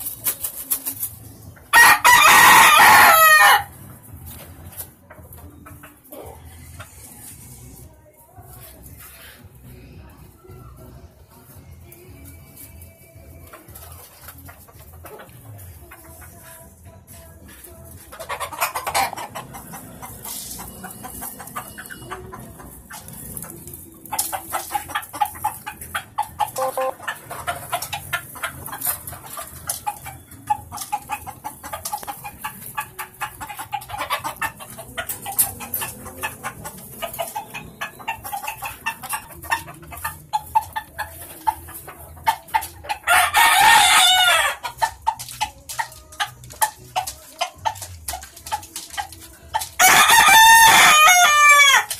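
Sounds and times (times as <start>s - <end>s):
chickens clucking: 0.0s - 7.8s, 8.4s - 51.9s.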